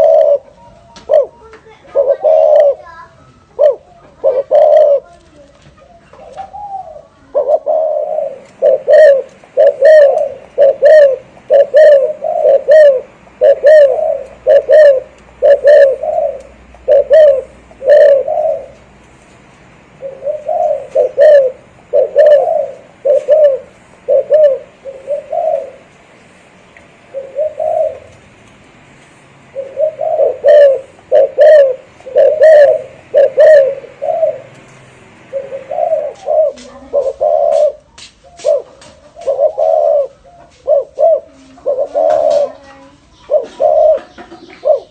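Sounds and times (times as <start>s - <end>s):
dove cooing: 0.0s - 19.0s, 19.9s - 26.2s, 27.0s - 28.4s, 29.5s - 44.9s.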